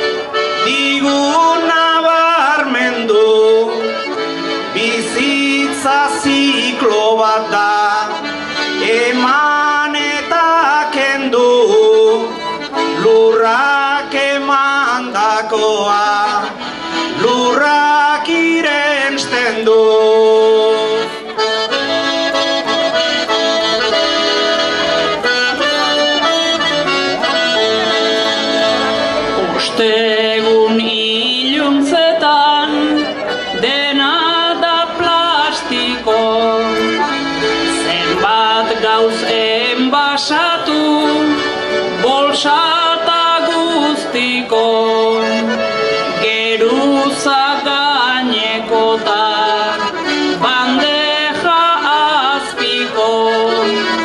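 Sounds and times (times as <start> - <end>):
button accordion playing folk tune: 0.0 - 54.0.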